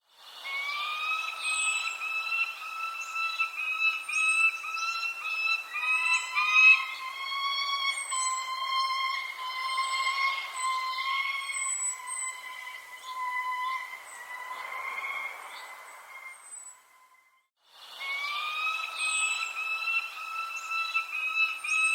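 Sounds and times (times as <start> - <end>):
small birds chirping: 0.4 - 17.0, 18.0 - 21.9
whistling tone: 0.4 - 21.9.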